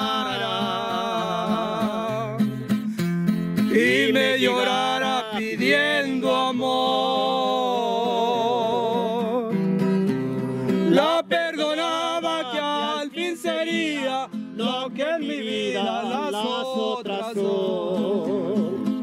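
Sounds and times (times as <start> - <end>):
man singing: 0.0 - 2.9, 3.6 - 9.9, 10.7 - 19.0
strummed acoustic guitar: 0.0 - 19.0.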